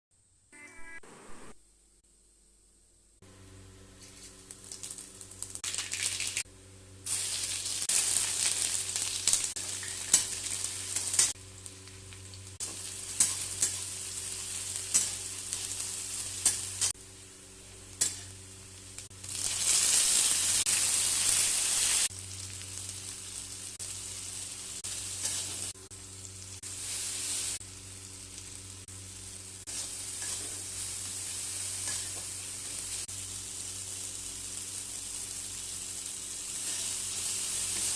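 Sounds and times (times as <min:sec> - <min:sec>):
food sizzling in a pan: 0:03.9 - 0:37.9.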